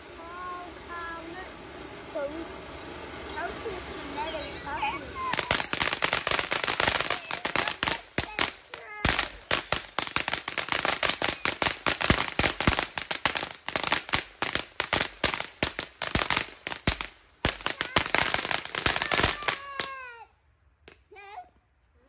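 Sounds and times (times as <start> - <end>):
fireworks cracking: 0.0 - 21.2.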